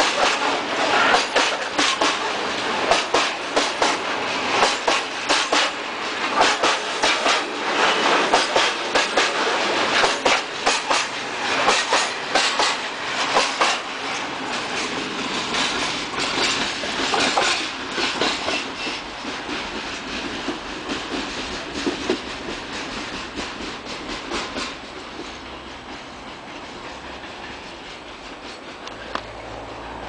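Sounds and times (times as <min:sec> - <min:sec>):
train wheels clicking over rail joints: 0:00.0 - 0:30.0.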